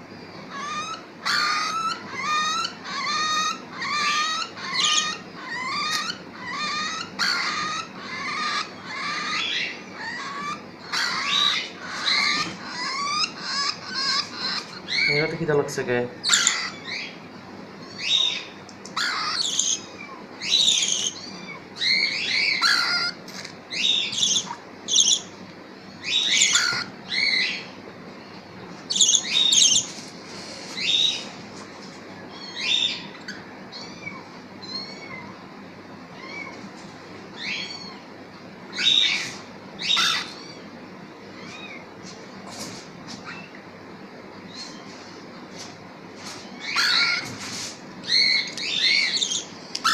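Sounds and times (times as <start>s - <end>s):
parrot chicks begging calls: 0.2s - 36.7s, 37.3s - 42.0s, 46.2s - 49.9s.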